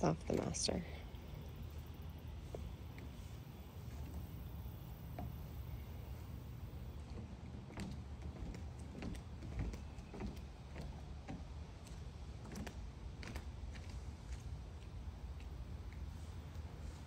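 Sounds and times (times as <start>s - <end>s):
footsteps on wood and paving: 1.2s - 17.0s.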